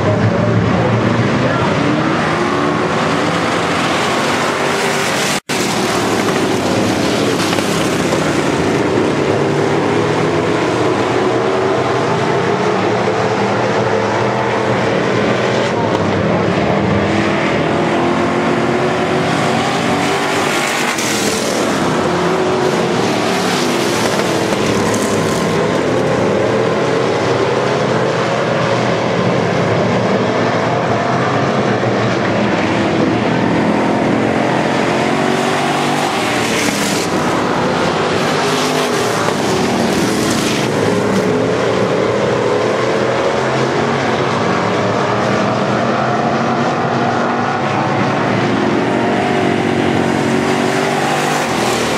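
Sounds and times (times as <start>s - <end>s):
race car engines: 0.0s - 51.9s.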